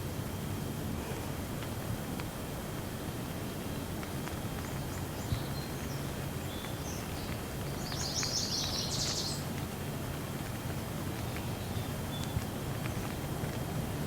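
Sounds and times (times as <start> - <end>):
light rain rumble: 0.0 - 14.0.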